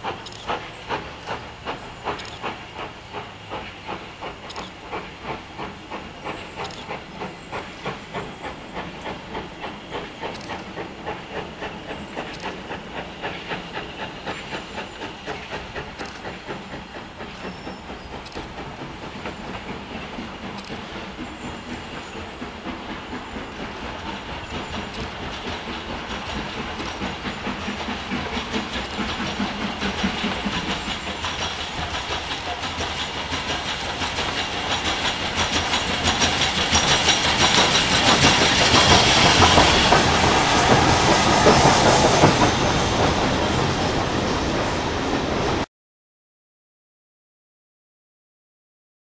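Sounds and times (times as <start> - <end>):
wheels clicking over rail joints: 0.0 - 44.0
steam hiss: 0.0 - 45.7
steam locomotive exhaust beats: 0.0 - 45.7.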